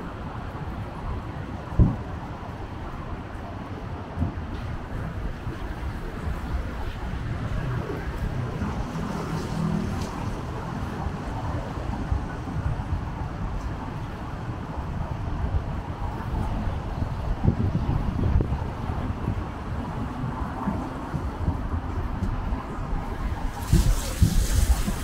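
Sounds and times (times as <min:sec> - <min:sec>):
low rumble of traffic: 0:00.0 - 0:25.0
wind buffeting microphone: 0:00.0 - 0:25.0.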